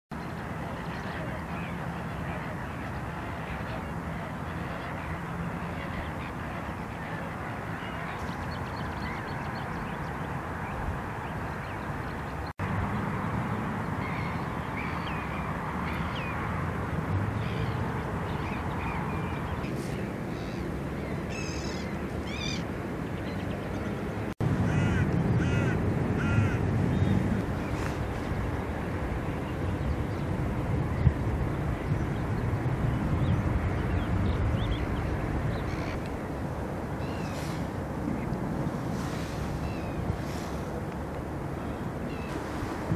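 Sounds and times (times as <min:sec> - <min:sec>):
waterbirds calling: 0:00.1 - 0:42.9
wind on microphone: 0:00.2 - 0:42.9.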